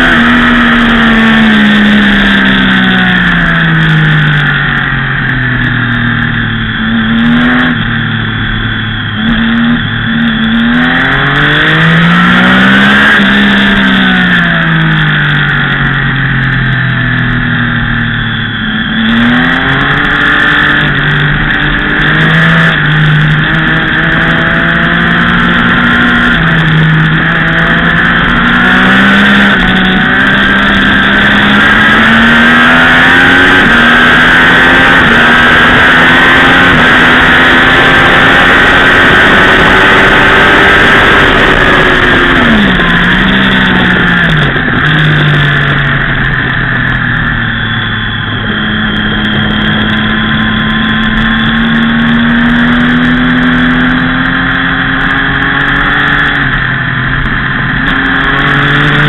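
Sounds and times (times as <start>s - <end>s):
motorcycle engine at high revs: 0.0s - 59.0s
wind rushing over microphone: 0.0s - 59.0s.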